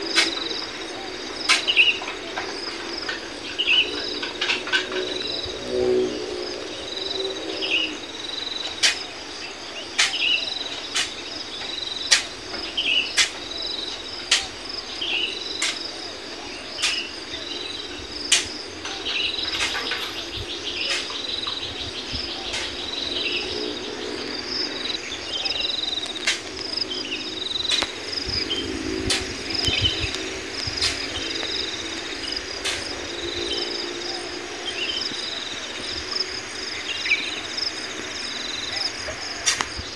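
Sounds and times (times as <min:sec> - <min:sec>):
birds chirping: 0:00.0 - 0:39.9
crickets chirring: 0:00.0 - 0:39.9.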